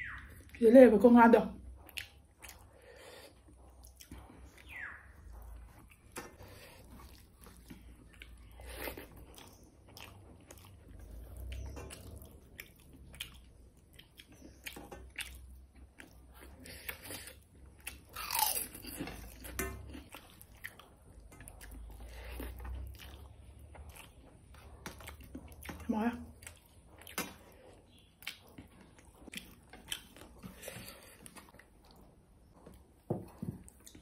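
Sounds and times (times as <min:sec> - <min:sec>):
person chewing food: 0:01.6 - 0:34.0.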